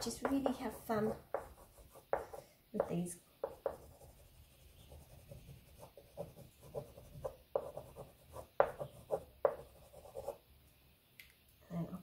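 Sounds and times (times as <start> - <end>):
pastel scratching on paper: 0.1 - 10.4.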